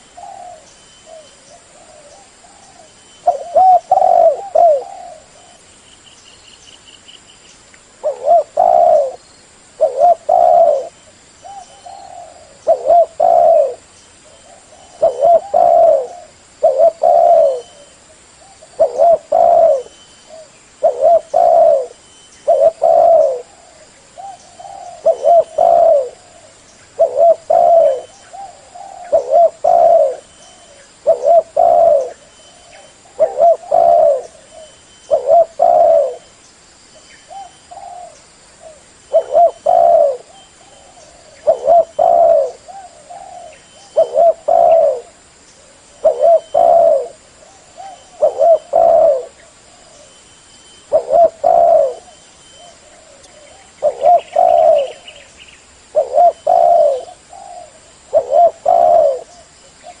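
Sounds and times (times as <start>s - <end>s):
dove cooing: 0.0s - 5.7s, 8.0s - 36.3s, 37.3s - 50.2s, 50.8s - 60.0s.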